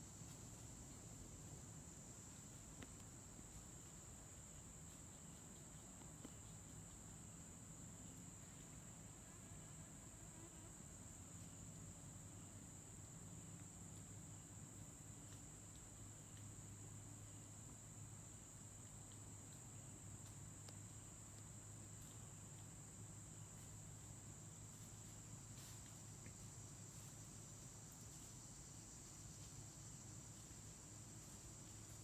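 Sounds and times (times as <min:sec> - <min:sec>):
high-pitched insect chorus trilling: 0:00.0 - 0:32.0.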